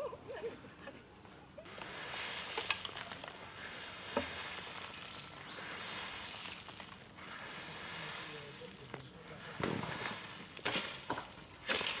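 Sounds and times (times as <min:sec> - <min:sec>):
broom sweeping dry leaves: 0:01.6 - 0:12.0.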